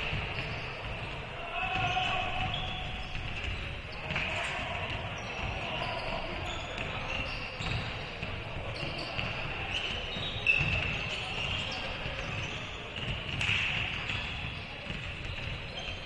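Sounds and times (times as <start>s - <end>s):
sneaker squeaks: 0.0s - 16.0s.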